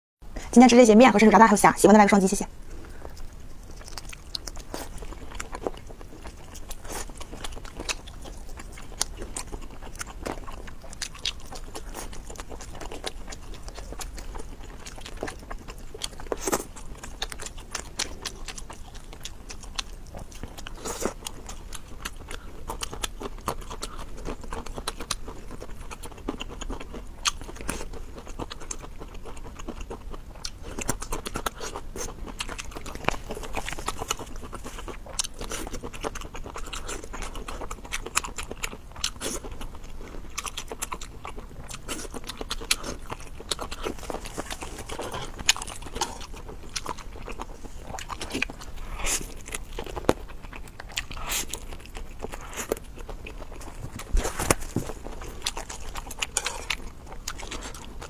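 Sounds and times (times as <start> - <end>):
person chewing and crunching: 2.1 - 58.0.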